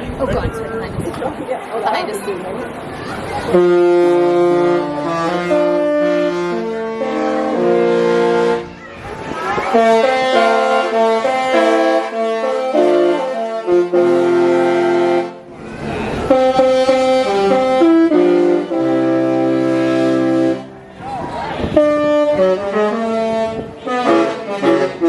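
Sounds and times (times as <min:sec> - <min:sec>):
ship horn playing a tune: 0:03.5 - 0:25.0.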